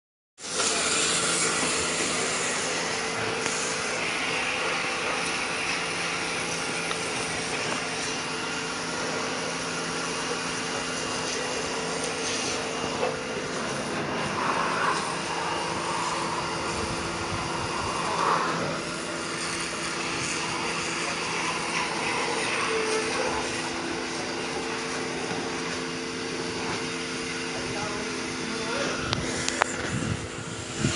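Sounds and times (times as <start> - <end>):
pressure washer running: 0.4 - 30.9.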